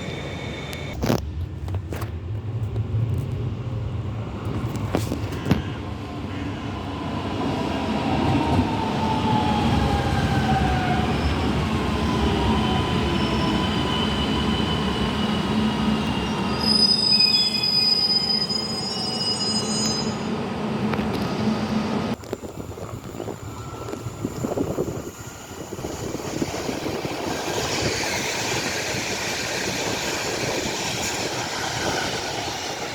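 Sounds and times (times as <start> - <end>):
train wheels squealing on rails: 0.0 - 1.0, 4.9 - 32.9
rumble of train cars: 0.0 - 32.9.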